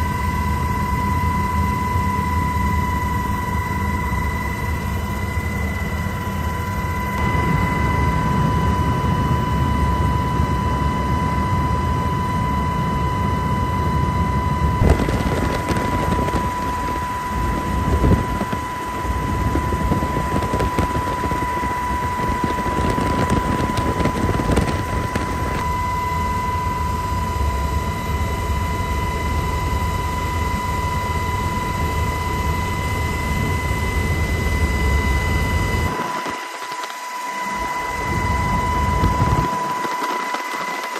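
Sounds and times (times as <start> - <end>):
helicopter rumble and whine: 0.0 - 40.9.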